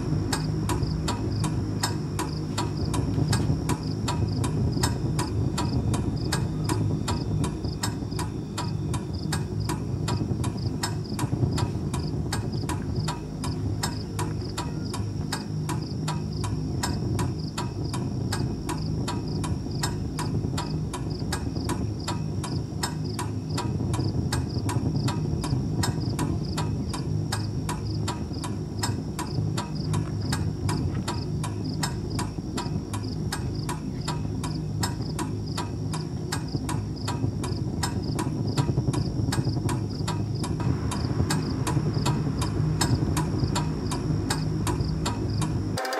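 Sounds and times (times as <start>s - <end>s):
low hum: 0.0s - 45.9s
regular ticking: 0.0s - 45.9s.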